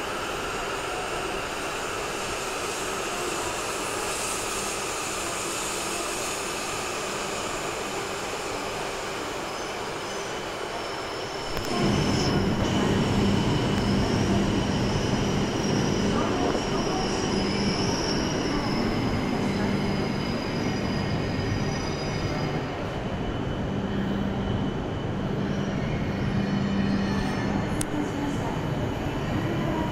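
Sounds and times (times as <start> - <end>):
train rumbling: 0.0 - 29.9
high brake squeal: 0.4 - 27.7.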